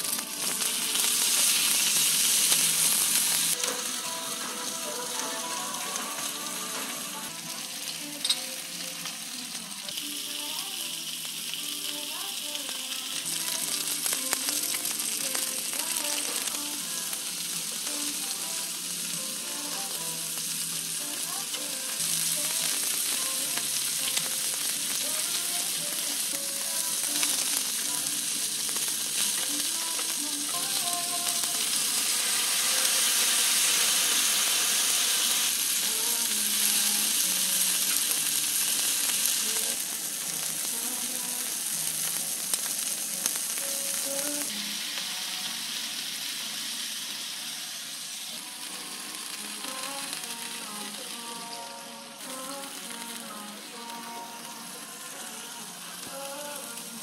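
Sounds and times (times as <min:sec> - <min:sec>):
meat sizzling on a griddle: 0:00.0 - 0:57.0.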